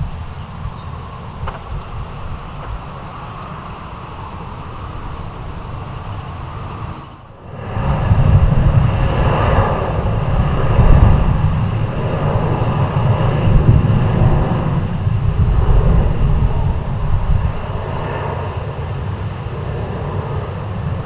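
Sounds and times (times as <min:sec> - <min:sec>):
faint jet whine: 0:00.0 - 0:21.0
jet engines rumbling: 0:00.0 - 0:21.0.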